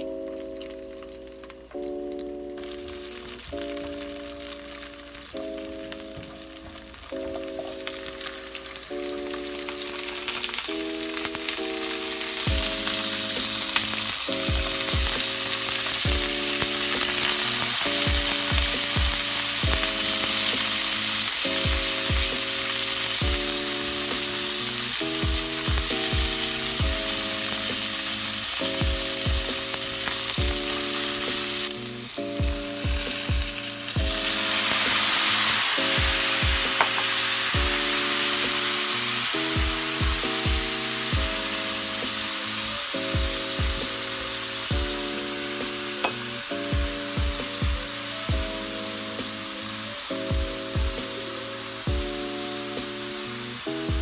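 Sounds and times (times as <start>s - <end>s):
food sizzling in hot oil: 0.0s - 54.0s
soft background music with beat: 0.0s - 54.0s.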